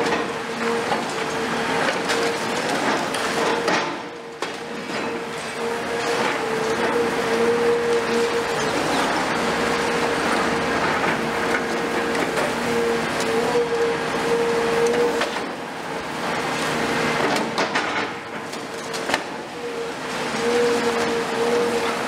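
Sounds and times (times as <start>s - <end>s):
excavator hydraulic whine: 0.0s - 22.0s.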